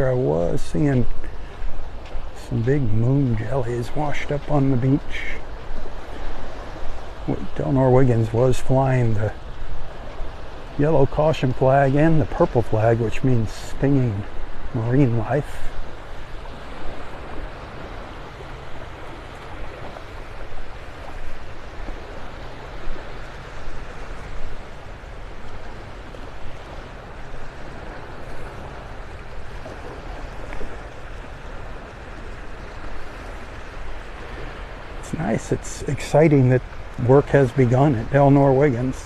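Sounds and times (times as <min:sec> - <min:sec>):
surf washing onto beach: 0:00.0 - 0:39.0.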